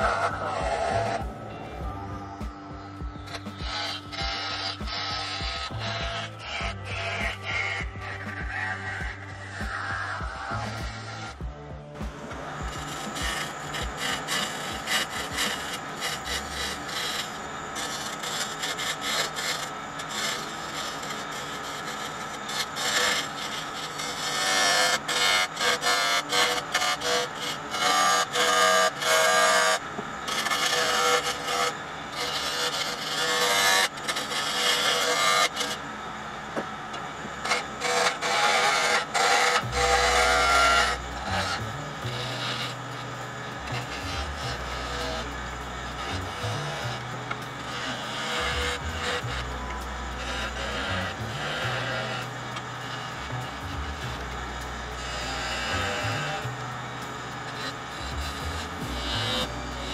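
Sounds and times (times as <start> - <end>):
lathe tool shaving wood: 0.0 - 59.9.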